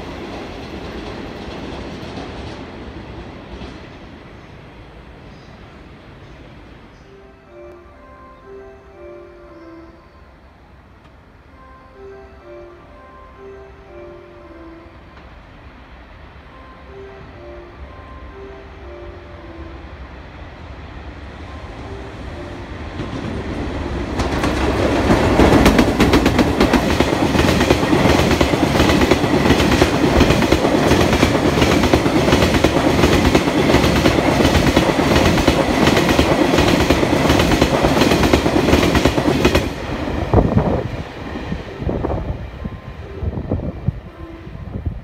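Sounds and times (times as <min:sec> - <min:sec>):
freight train passing: 0:00.0 - 0:45.0.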